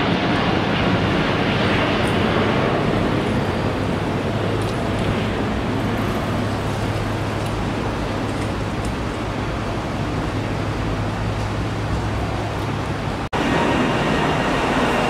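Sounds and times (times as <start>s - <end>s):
jet airliner rumble: 0.0s - 15.0s.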